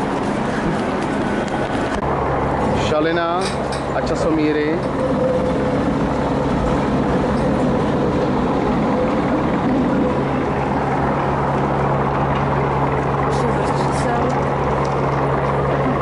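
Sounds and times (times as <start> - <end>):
continuous low hum: 0.0 - 16.0
street traffic noise: 0.0 - 16.0
tram running on rails: 0.0 - 16.0.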